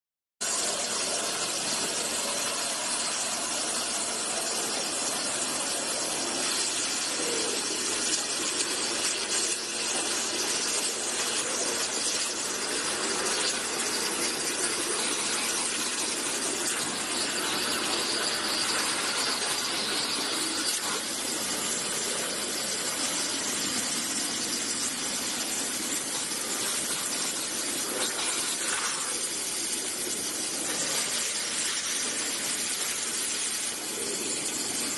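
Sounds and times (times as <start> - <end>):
high-pressure water jet hissing: 0.4 - 34.9.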